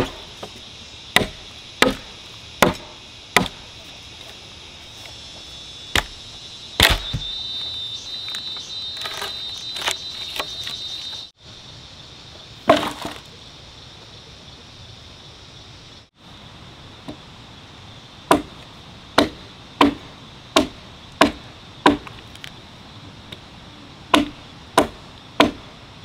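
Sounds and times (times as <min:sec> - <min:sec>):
high insect-like whine: 0:00.0 - 0:26.0
steady hiss: 0:00.0 - 0:26.0.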